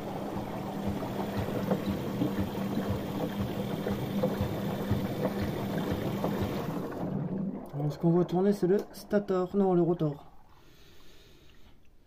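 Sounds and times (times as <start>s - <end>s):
washing machine motor humming: 0.0s - 10.6s
water sloshing in tub: 0.0s - 10.8s.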